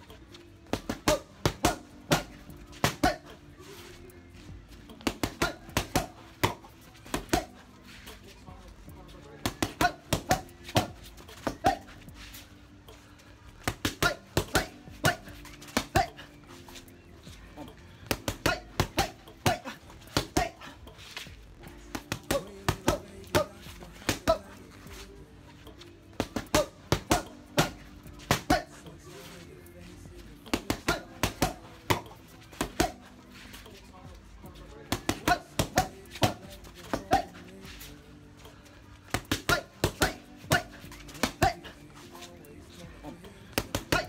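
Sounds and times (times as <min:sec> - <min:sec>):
boxing gloves slapping mitts: 0:00.0 - 0:04.0, 0:04.8 - 0:08.3, 0:09.4 - 0:25.1, 0:25.8 - 0:29.4, 0:30.2 - 0:33.8, 0:34.4 - 0:42.4, 0:43.5 - 0:44.0.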